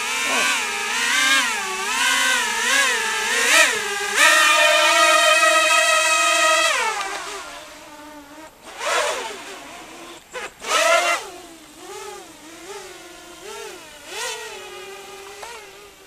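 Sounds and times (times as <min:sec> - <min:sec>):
model aircraft propeller whine: 0:00.0 - 0:16.0.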